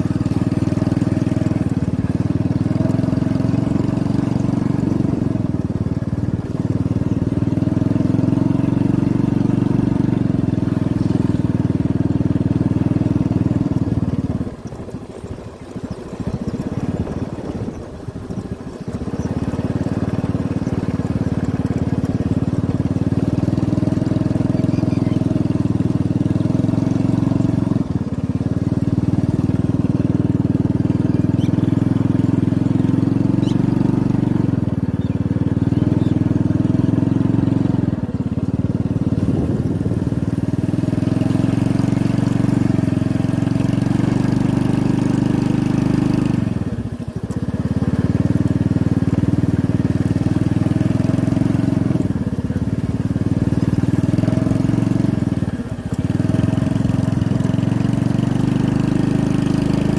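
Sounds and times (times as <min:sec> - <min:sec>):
small vehicle engine on dirt track: 0:00.0 - 0:59.9.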